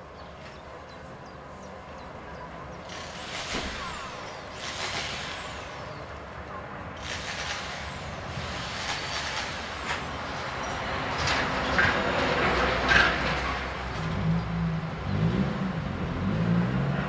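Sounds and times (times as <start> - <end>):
vehicles passing with tyre hiss: 0.0 - 17.0.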